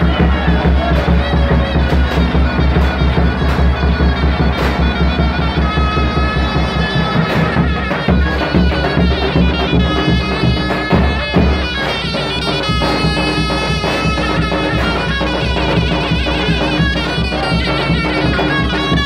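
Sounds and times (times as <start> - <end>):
folk dance music with drum and wind: 0.0 - 19.0.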